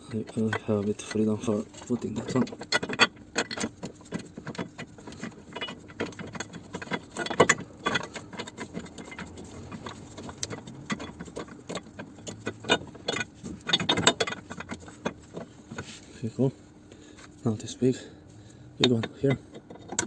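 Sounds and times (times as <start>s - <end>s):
metal tools clinking and rattling: 0.0s - 15.9s, 18.8s - 20.0s.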